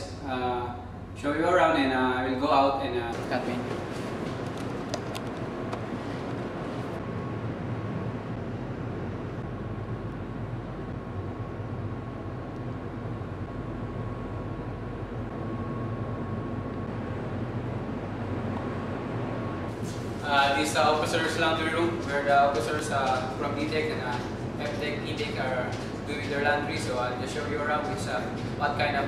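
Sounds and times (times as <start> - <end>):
faint steady whine: 0.0 - 29.0
low machinery hum: 0.0 - 29.0.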